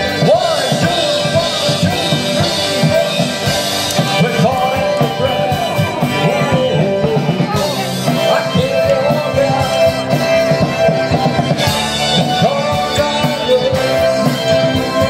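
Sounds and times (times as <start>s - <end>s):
drum kit: 0.0s - 15.0s
person singing: 0.0s - 15.0s
rock and roll song: 0.0s - 15.0s.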